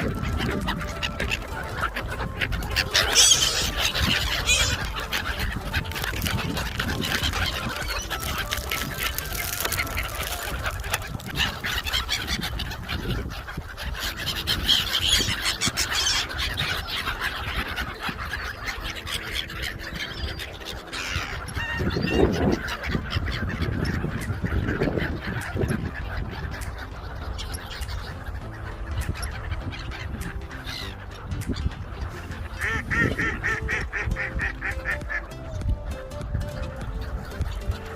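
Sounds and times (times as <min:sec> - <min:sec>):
waterbirds calling and honking: 0:00.0 - 0:37.9.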